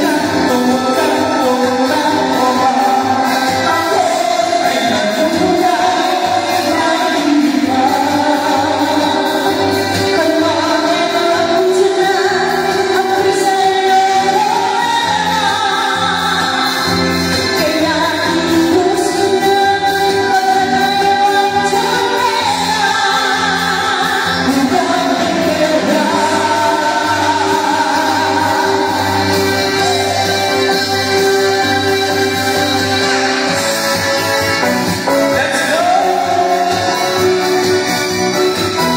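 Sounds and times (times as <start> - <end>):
person singing: 0.0 - 38.9.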